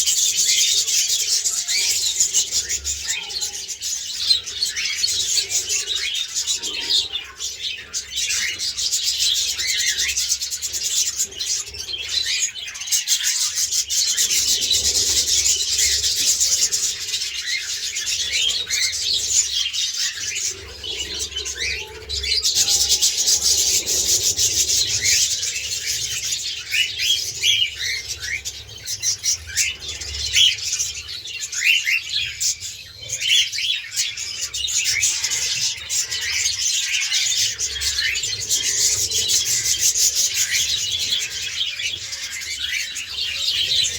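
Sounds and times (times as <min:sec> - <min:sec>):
flock of parakeets chirping: 0:00.0 - 0:43.9.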